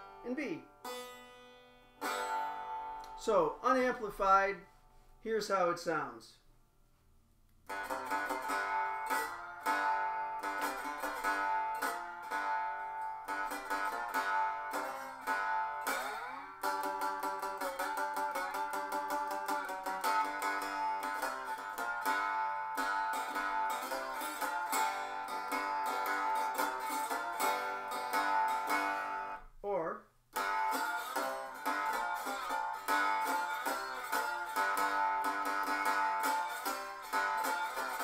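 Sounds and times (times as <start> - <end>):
slide guitar chords: 0.0 - 4.7, 7.7 - 38.0.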